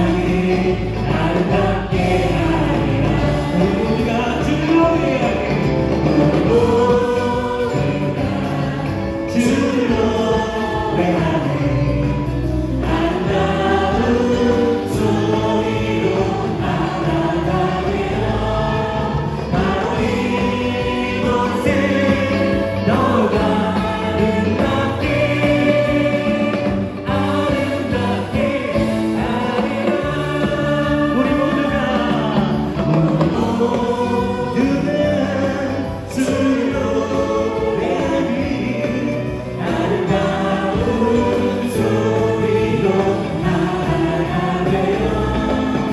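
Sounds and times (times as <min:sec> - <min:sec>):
drums: 0:00.0 - 0:45.9
electric guitar: 0:00.0 - 0:45.9
people singing together: 0:00.0 - 0:45.9.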